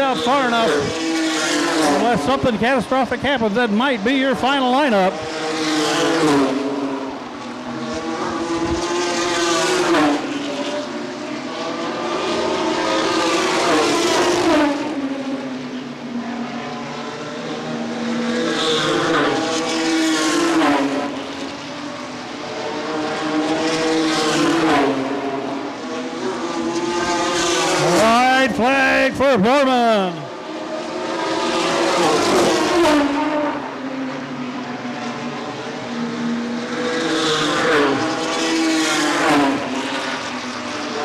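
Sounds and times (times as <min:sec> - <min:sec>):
race truck engines passing: 0:00.0 - 0:41.0.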